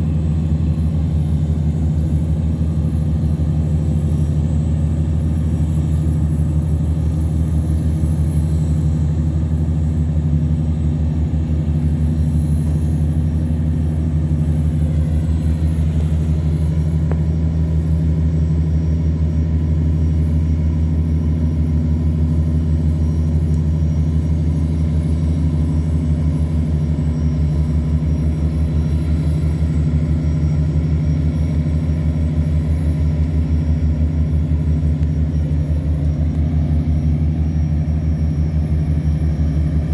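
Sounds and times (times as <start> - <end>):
diesel engine droning under load: 0.0 - 39.9.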